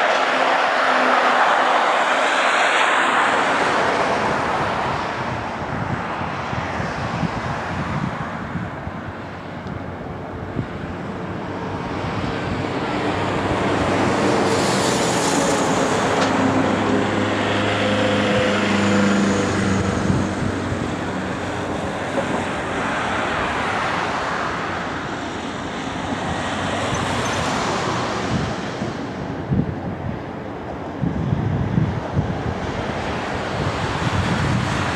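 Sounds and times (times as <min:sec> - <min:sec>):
jet engines rumbling and whining: 0:00.0 - 0:34.9
wind on microphone: 0:01.4 - 0:34.9.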